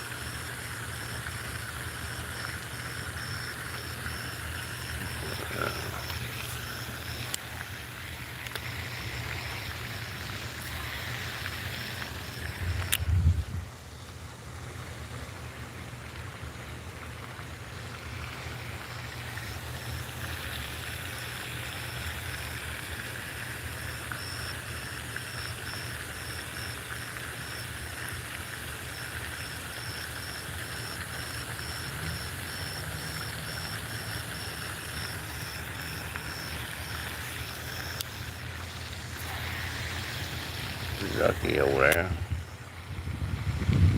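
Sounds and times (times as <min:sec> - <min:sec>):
low rumble and hiss: 0:00.0 - 0:43.9.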